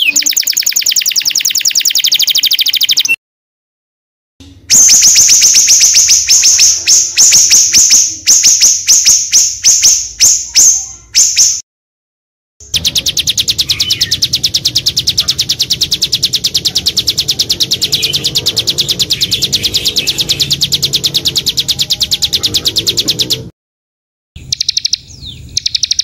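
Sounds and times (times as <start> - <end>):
songbird repeating high note: 0.0 - 3.2, 4.6 - 11.6, 12.6 - 23.5.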